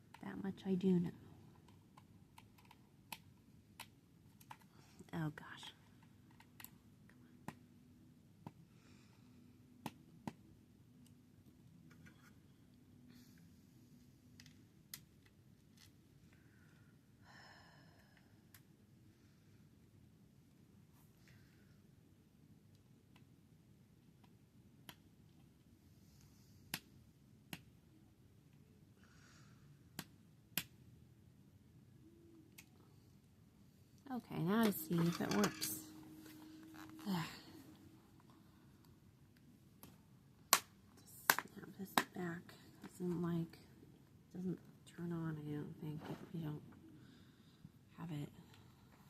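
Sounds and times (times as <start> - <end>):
faint room hum: 0.0 - 49.0.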